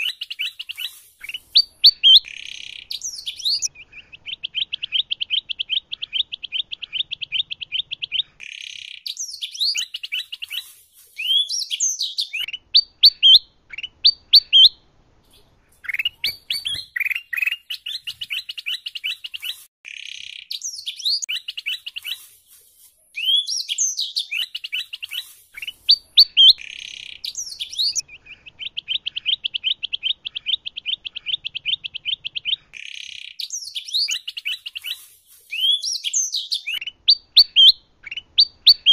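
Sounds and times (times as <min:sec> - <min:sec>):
songbirds trilling and whistling: 0:00.0 - 0:14.8, 0:15.4 - 0:22.5, 0:23.1 - 0:38.9.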